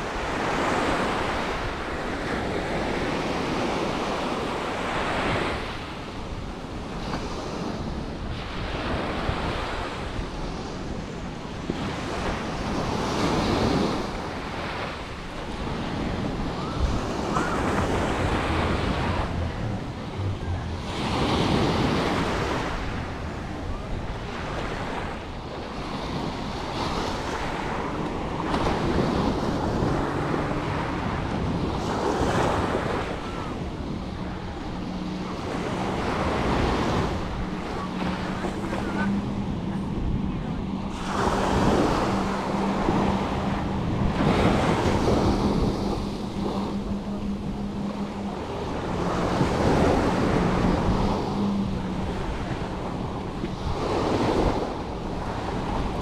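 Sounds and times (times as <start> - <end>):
sea waves breaking: 0.0 - 56.0
wind buffeting microphone: 0.0 - 56.0.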